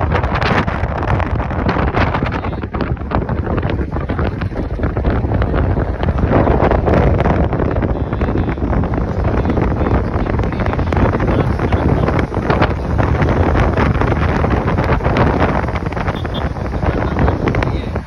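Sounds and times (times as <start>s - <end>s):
road and traffic rumble: 0.0s - 18.0s
wind buffeting microphone: 0.0s - 18.0s.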